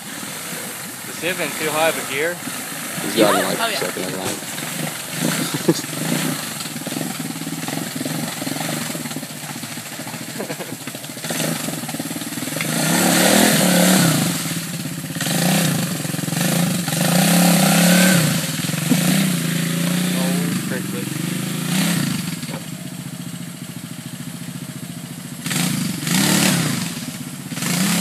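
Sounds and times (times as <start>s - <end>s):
engine revving: 0.0s - 23.7s, 25.4s - 28.0s.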